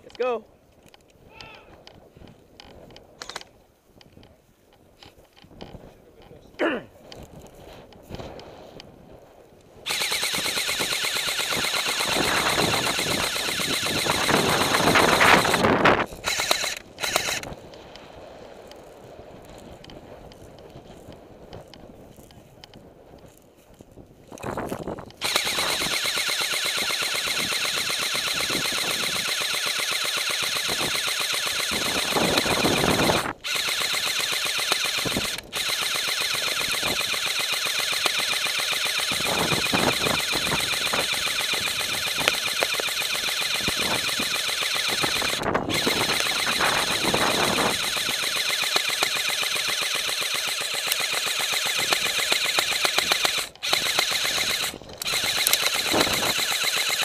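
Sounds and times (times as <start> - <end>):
airsoft gun full-auto rattle: 9.8 - 18.0, 18.6 - 57.0.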